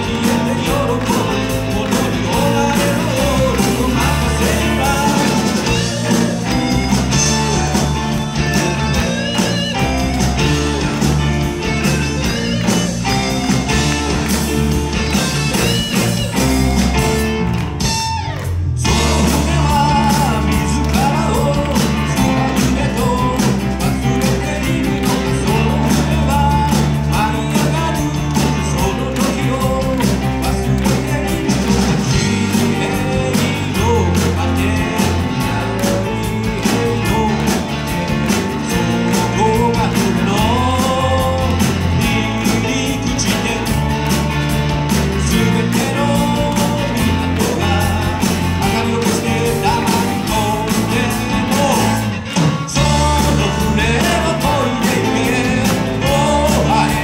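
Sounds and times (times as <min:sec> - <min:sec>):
man singing: 0:00.0 - 0:16.6, 0:18.8 - 0:57.0
rock band playing: 0:00.0 - 0:57.0.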